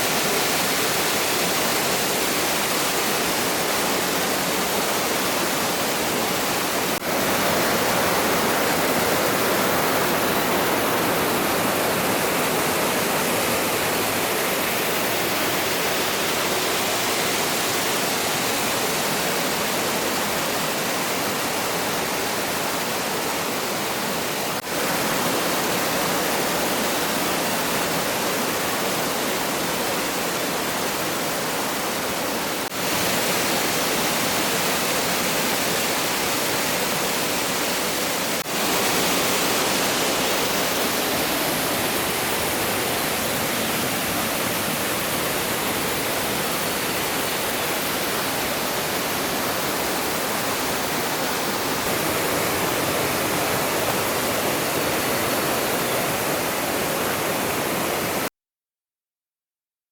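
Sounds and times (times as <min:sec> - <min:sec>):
stream water rushing: 0:00.0 - 0:58.3.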